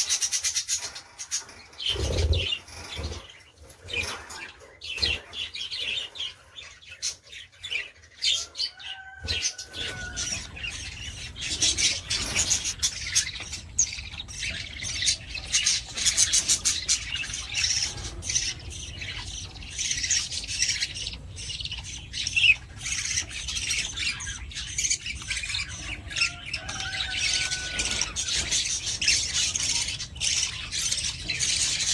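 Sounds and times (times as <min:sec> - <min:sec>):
parrots chattering and squawking: 0:00.0 - 0:31.9.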